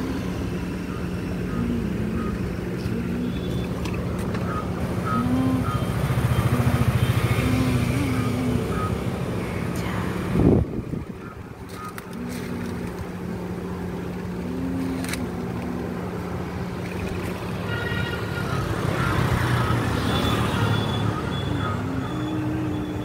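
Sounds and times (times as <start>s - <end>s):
road traffic noise: 0.0s - 23.0s
vehicle engine humming: 0.0s - 23.0s.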